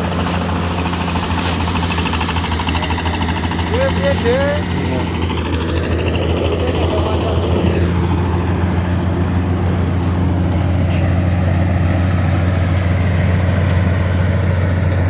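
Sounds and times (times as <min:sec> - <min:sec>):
rushing mechanical noise: 0:00.0 - 0:15.0
thresher engine hum: 0:00.0 - 0:15.0.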